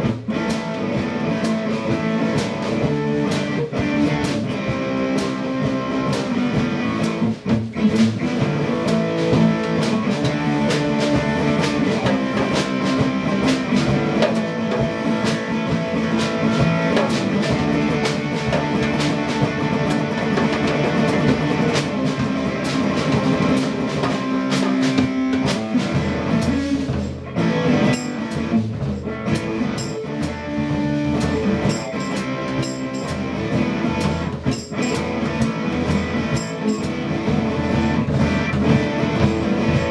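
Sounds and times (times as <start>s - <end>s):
drum beat: 0.0s - 39.9s
strummed electric guitar: 0.0s - 39.9s.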